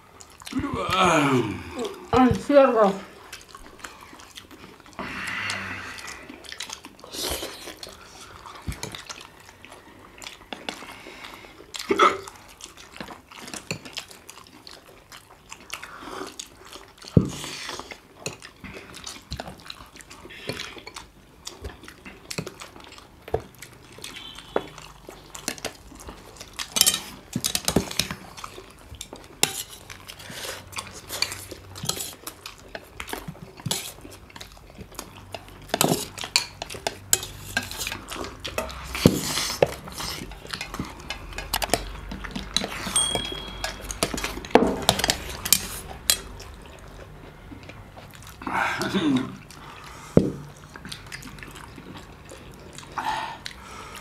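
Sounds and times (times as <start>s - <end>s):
mouth sounds of eating: 0.0s - 43.0s, 43.6s - 54.0s.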